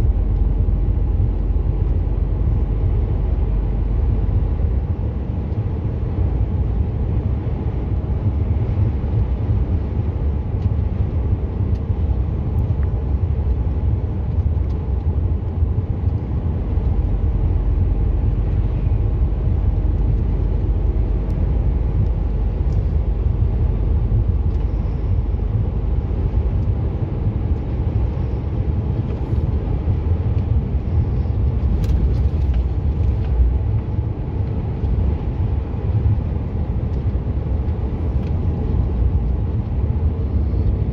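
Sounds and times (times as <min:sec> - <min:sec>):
lorry engine drone: 0:00.0 - 0:40.9
tyres on the road: 0:00.0 - 0:40.9.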